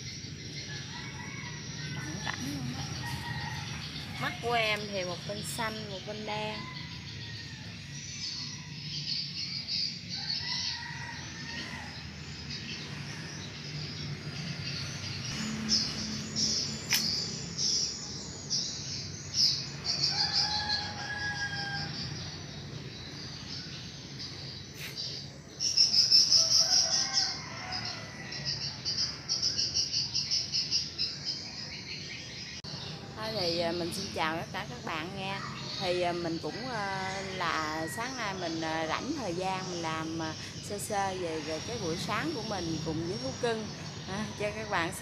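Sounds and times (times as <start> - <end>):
birds chirping and twittering: 0.0 - 45.0.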